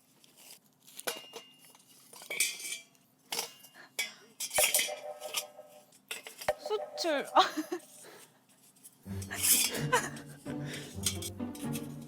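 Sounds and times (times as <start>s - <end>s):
hard objects clinking: 0.9s - 12.0s.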